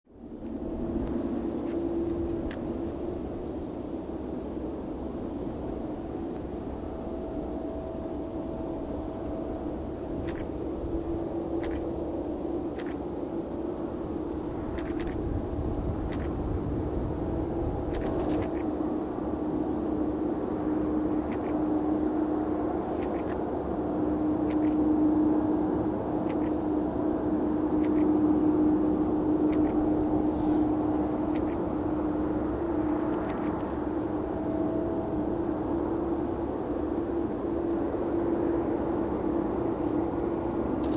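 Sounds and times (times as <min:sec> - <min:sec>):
jet engines droning hum: 0:00.1 - 0:40.9.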